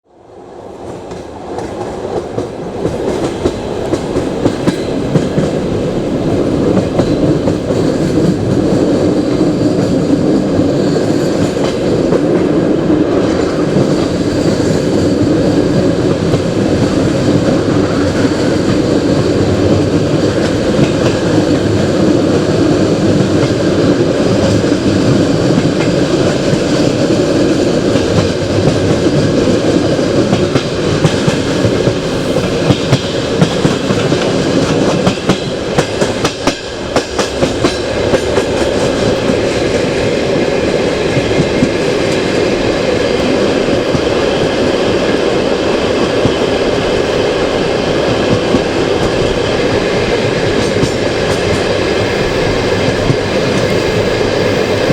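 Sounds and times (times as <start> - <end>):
train wheels rumbling on rails: 0.1 - 54.9.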